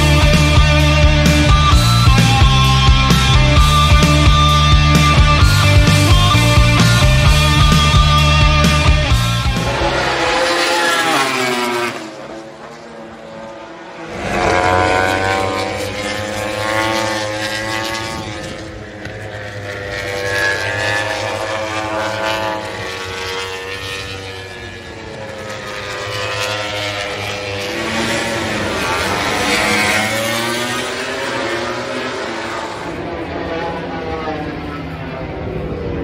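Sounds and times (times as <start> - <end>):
racing motorcycles passing: 0.0 - 36.0.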